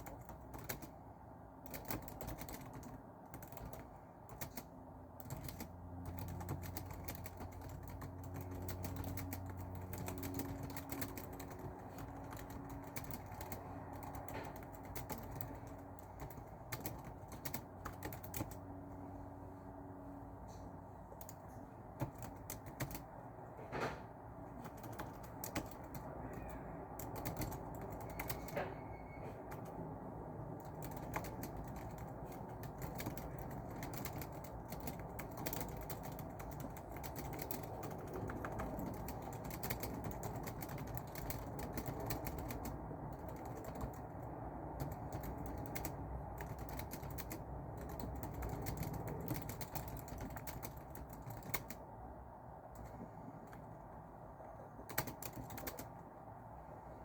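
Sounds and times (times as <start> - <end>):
typing on a keyboard: 0.0 - 19.1, 20.5 - 51.9, 52.6 - 53.7, 54.4 - 56.1
low background noise: 0.0 - 57.0.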